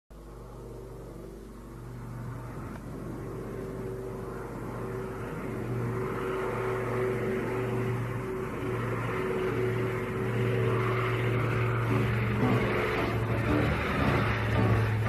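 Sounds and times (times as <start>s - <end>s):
engine running steadily: 0.1s - 15.0s.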